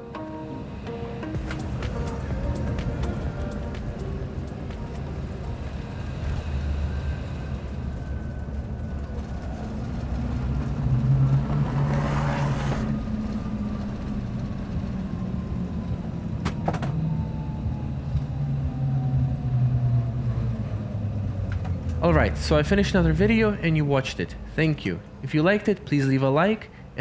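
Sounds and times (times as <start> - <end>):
jet cabin rumble: 0.0 - 24.7
jet engines whining: 0.0 - 24.7.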